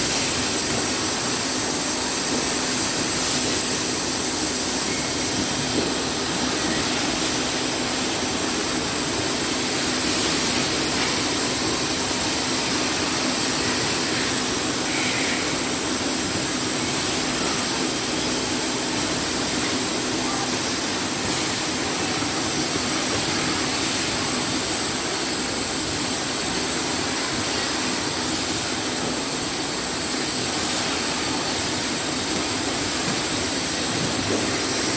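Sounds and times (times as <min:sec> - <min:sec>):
machinery whirring hiss: 0:00.0 - 0:34.9
thin high whine: 0:00.0 - 0:34.9.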